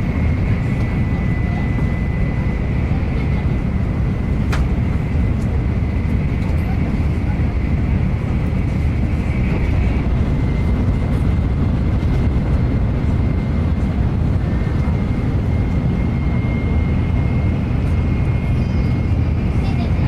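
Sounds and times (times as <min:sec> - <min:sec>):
train rumble and rushing noise: 0:00.0 - 0:20.0.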